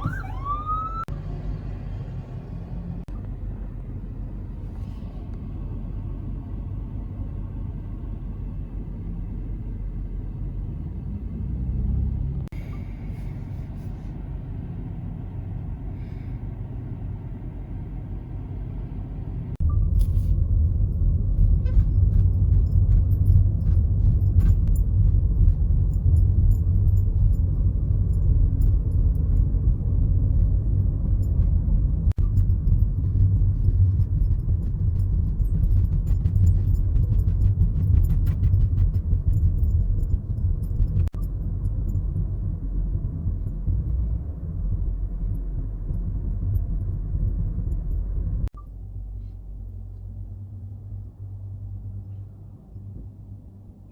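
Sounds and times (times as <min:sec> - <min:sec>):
car driving rumble from inside: 0:00.0 - 0:53.9.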